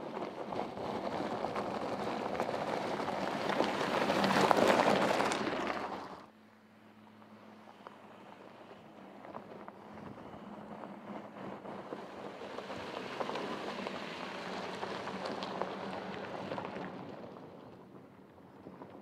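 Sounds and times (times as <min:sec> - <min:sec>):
tyres crunching over gravel: 0:00.0 - 0:06.3, 0:08.6 - 0:19.0.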